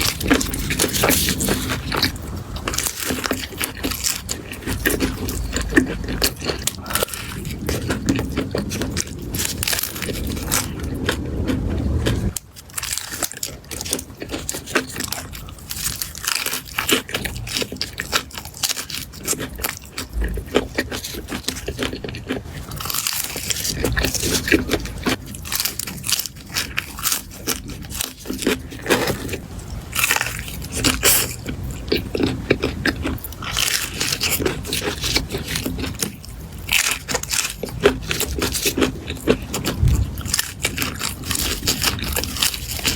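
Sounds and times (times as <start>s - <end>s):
person crunching and chewing: 0.0s - 42.9s.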